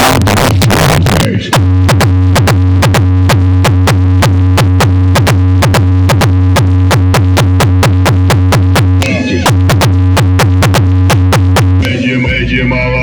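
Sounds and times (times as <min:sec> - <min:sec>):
heavy sustained bass: 0:00.0 - 0:12.7
loud electronic music: 0:00.0 - 0:13.0.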